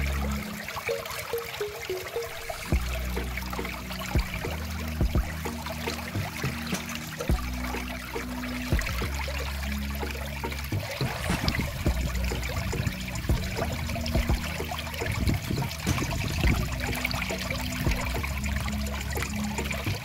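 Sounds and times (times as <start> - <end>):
stream trickling over rock: 0.0 - 20.0.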